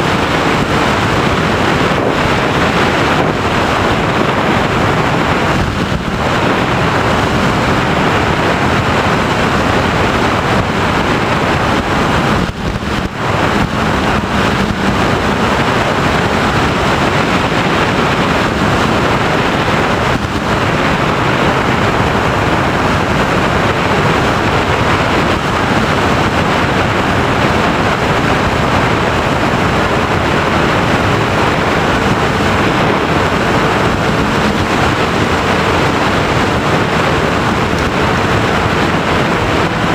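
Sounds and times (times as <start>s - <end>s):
propeller noise: 0.0s - 39.9s
wind rushing: 0.0s - 39.9s.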